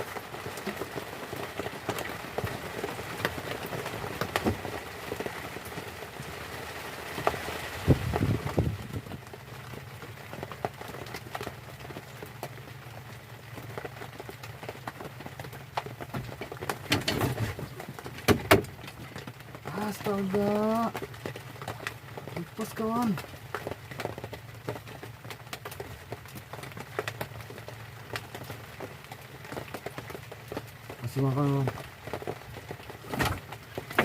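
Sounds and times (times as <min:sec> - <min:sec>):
heavy rain pattering: 0:00.0 - 0:34.0.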